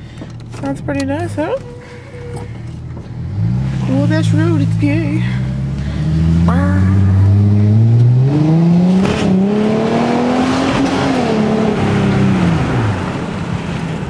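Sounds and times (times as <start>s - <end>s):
car engine accelerating hard: 2.2s - 14.0s.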